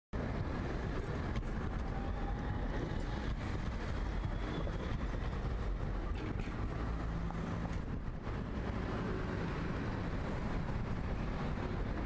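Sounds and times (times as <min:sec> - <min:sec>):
street traffic: 0:00.2 - 0:12.0
tram rumbling past: 0:00.2 - 0:12.0.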